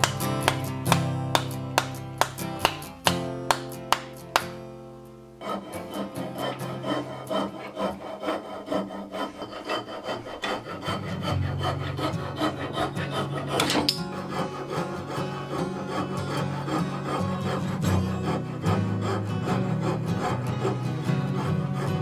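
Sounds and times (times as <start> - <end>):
saw cutting wood: 0.0 - 4.6, 5.4 - 22.0.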